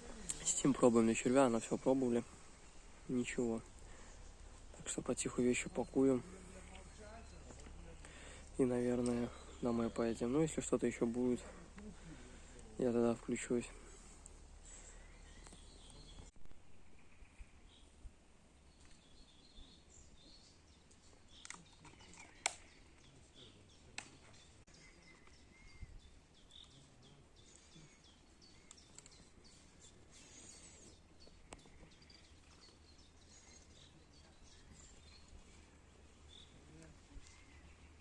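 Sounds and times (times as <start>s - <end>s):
faint bird chirps: 0.0s - 38.0s.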